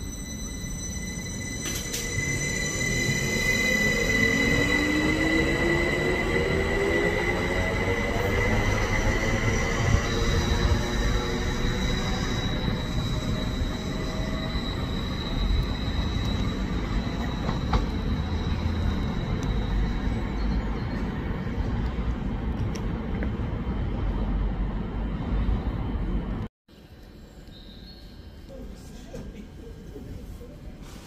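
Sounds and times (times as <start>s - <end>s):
train rumbling past: 0.0s - 26.5s.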